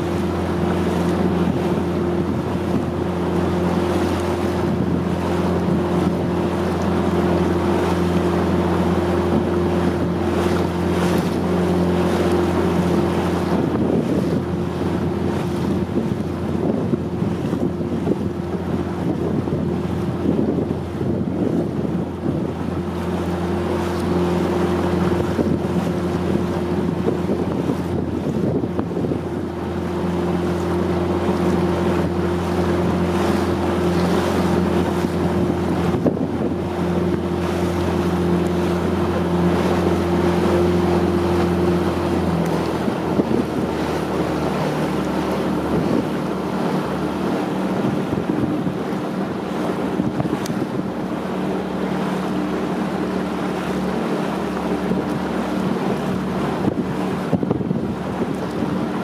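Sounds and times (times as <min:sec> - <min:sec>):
motorboat engine humming: 0:00.0 - 0:59.0
water wash: 0:00.0 - 0:59.0
wind buffeting microphone: 0:00.0 - 0:59.0.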